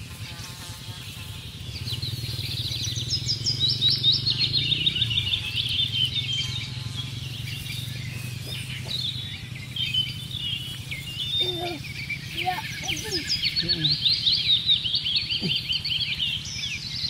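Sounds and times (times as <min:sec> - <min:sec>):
songbirds singing: 0:00.0 - 0:17.0
steady low hum: 0:00.0 - 0:17.0.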